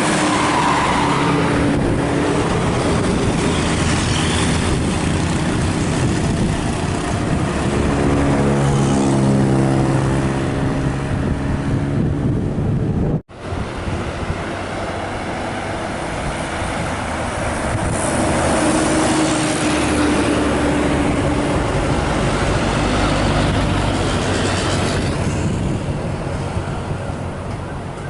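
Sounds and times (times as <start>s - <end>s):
bus engine drone: 0.0s - 28.0s
buses passing at speed: 0.0s - 28.0s.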